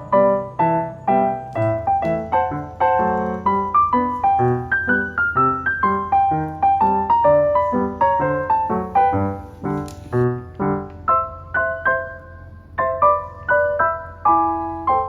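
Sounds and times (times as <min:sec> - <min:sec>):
lively piano music: 0:00.0 - 0:15.0.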